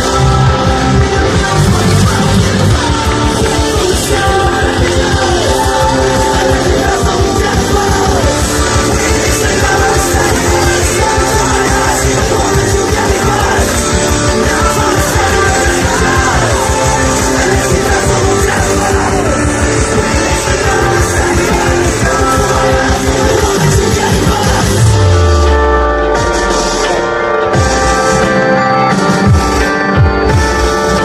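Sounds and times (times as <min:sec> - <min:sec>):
loud rock music with singing: 0:00.0 - 0:31.0.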